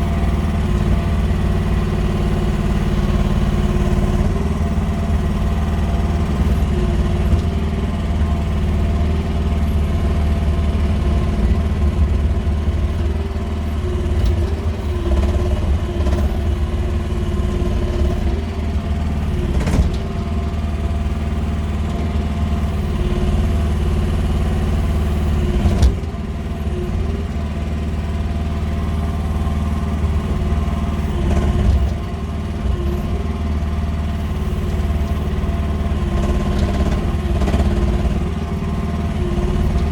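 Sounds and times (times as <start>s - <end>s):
clunks: 0.0s - 39.9s
excavator engine running: 0.0s - 39.9s.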